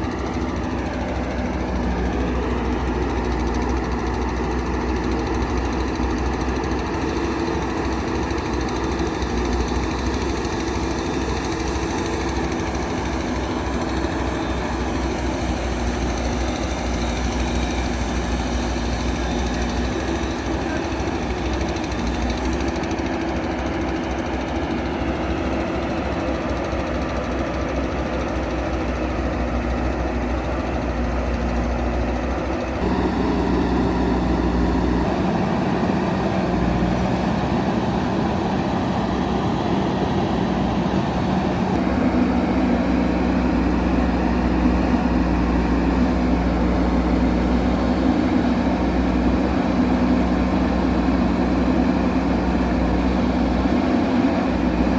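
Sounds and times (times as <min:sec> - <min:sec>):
diesel engine of backhoe loader: 0:00.0 - 0:54.9.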